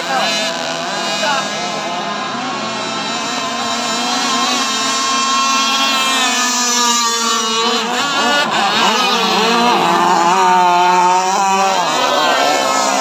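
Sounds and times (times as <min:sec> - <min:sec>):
model powerboat engines racing: 0:00.0 - 0:13.0.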